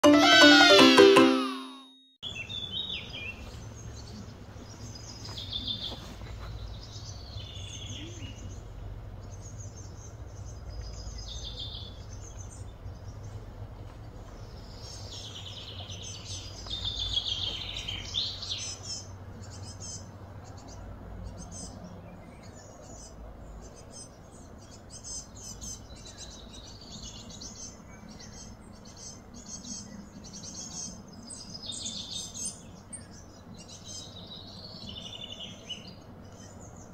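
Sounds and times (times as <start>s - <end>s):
birds chirping and trilling: 2.2s - 36.9s.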